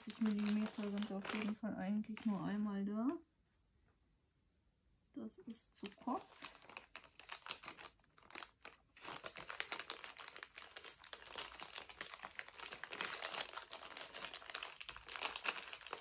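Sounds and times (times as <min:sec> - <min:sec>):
plastic bag crinkling: 0:00.0 - 0:02.7, 0:05.8 - 0:16.0.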